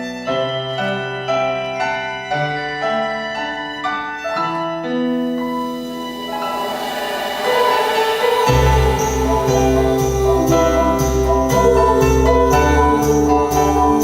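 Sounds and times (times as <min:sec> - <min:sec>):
slow keyboard music: 0:00.0 - 0:14.0.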